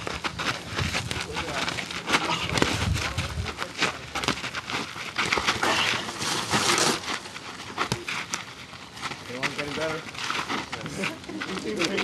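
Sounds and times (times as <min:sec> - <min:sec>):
sneakers scuffing on dirt: 0:00.0 - 0:12.0.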